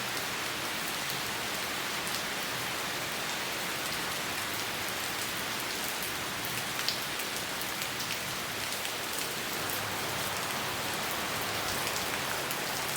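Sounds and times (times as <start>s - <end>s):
rain on leafy plants: 0.0s - 12.9s.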